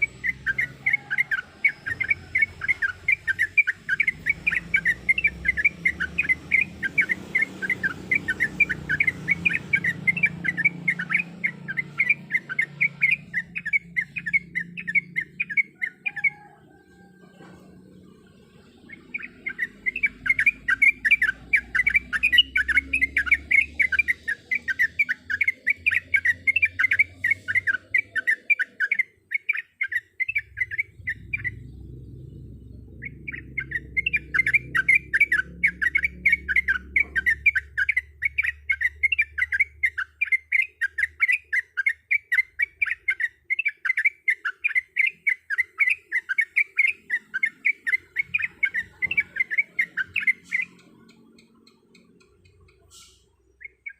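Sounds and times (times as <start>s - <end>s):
bulbul singing repeated notes: 0.0s - 53.9s.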